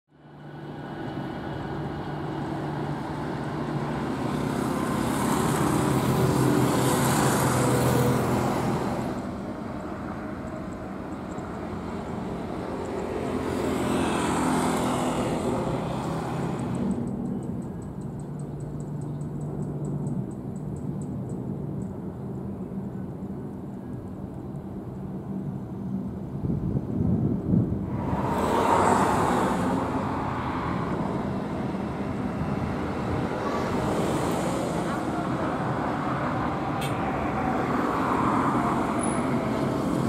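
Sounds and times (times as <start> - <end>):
jet engines rumbling and hissing: 0.1 - 40.0.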